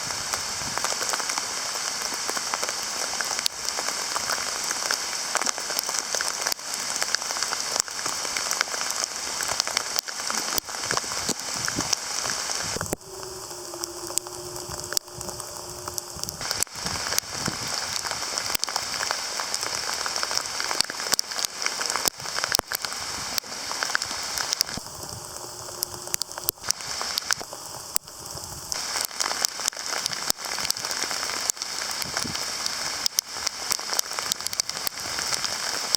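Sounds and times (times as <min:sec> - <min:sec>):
hail striking hard surfaces: 0:00.0 - 0:13.1, 0:13.7 - 0:35.9.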